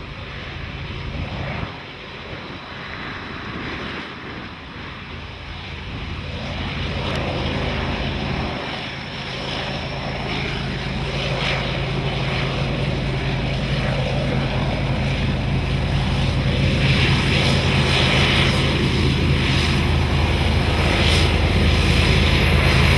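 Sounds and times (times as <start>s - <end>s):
diesel locomotive engines droning: 0.0s - 22.9s.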